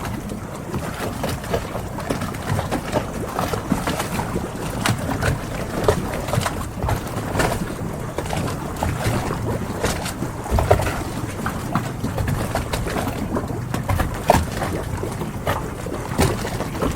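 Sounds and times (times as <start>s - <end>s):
water lapping around boats: 0.0s - 16.9s.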